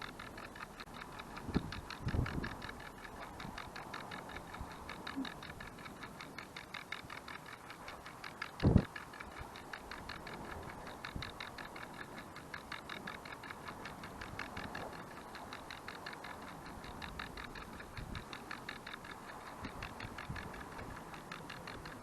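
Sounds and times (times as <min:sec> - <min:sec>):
kitchen timer ticking: 0:00.0 - 0:22.0.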